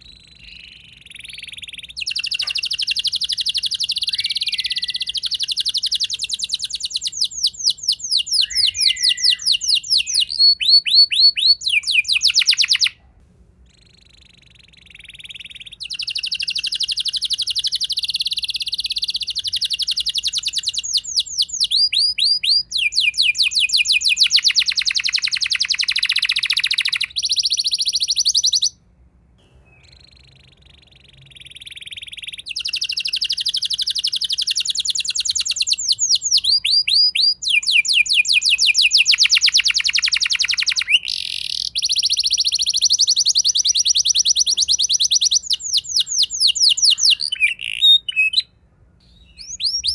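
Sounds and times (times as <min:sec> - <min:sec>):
canary singing trills: 0:00.0 - 0:13.0, 0:13.7 - 0:28.8, 0:29.4 - 0:49.9.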